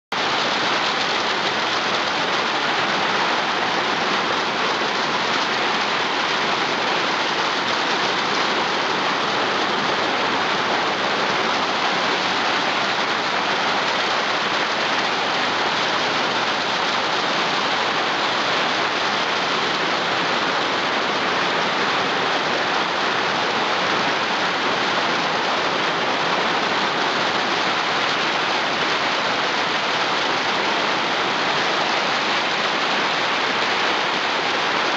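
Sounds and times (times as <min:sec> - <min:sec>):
rain on a tin roof: 0:00.1 - 0:34.9.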